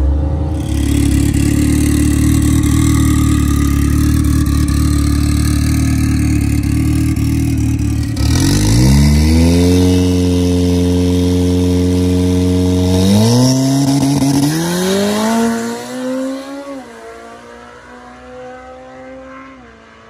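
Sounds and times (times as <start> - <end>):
racing car engine revving: 0.0 - 20.0.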